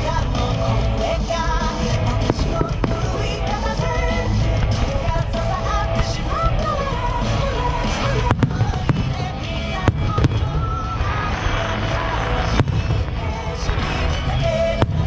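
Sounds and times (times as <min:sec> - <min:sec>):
music playing: 0:00.0 - 0:15.0
fireworks cracking bangs: 0:01.7 - 0:15.0.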